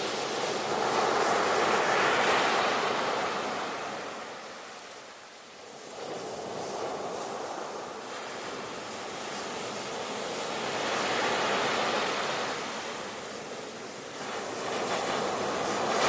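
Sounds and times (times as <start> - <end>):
ocean waves breaking: 0.0 - 5.0, 5.7 - 16.0.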